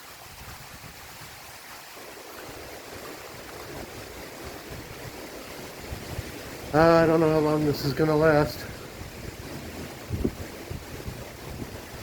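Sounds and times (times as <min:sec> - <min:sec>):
surf washing on beach: 0:00.0 - 0:12.0
strong sea wind: 0:00.1 - 0:12.0.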